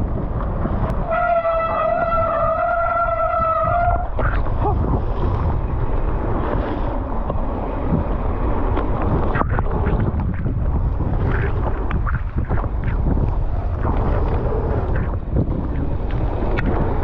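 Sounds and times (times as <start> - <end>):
bike rattles and knocks: 0.0 - 17.0
tyres rumbling on dirt: 0.0 - 17.0
wind buffeting microphone: 0.0 - 17.0.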